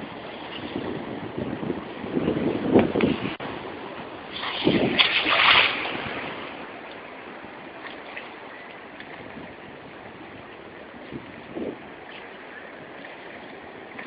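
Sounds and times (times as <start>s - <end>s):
seawater splashing: 0.0s - 14.0s.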